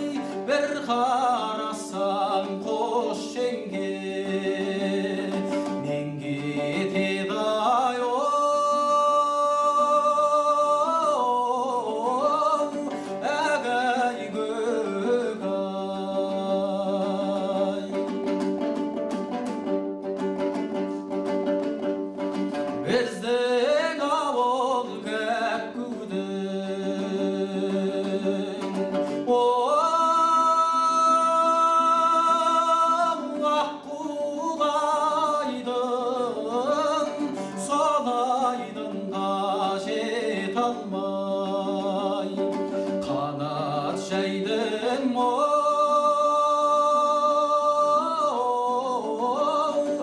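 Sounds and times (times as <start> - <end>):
person singing: 0.0 - 50.0
plucked lute strings: 0.0 - 50.0.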